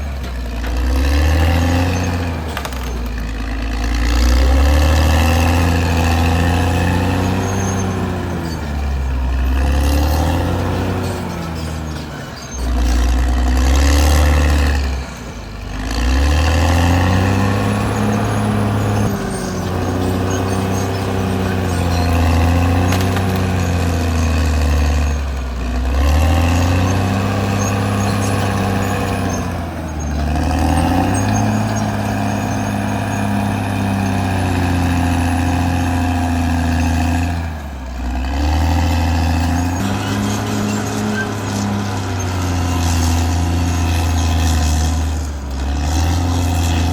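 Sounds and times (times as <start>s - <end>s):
bulldozer diesel engine under load: 0.0s - 46.9s.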